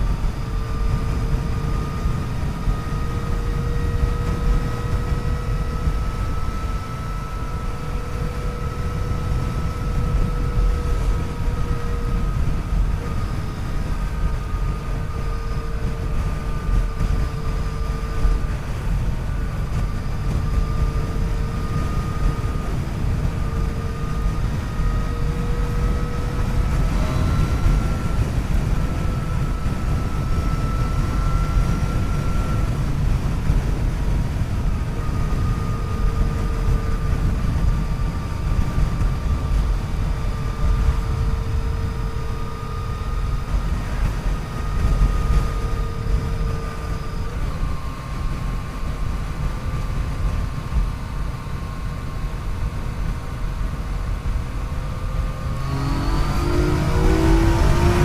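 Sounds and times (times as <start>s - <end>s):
wind and road rush: 0.0s - 58.0s.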